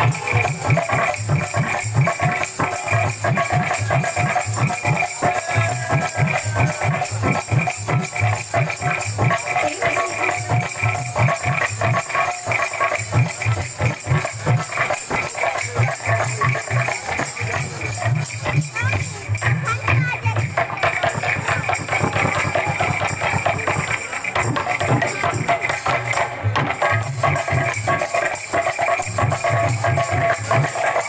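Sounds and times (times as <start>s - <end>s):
hand cymbals clashing: 0.0s - 31.0s
hand drums beating: 0.0s - 31.0s.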